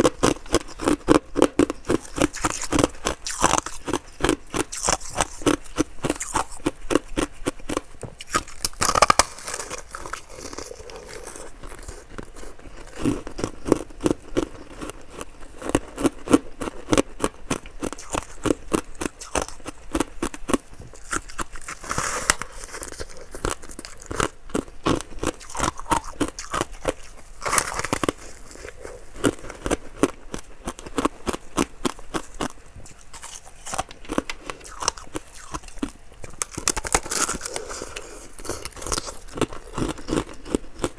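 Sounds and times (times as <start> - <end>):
crunching and chewing ice: 0.0 - 40.9.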